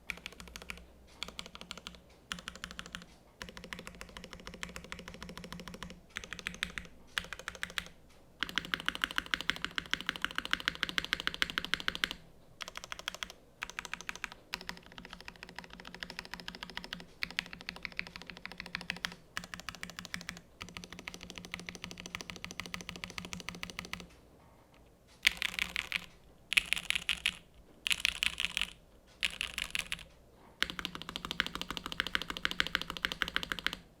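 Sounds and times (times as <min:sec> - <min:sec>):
mechanical keyboard typing: 0:00.0 - 0:24.2, 0:25.2 - 0:33.9.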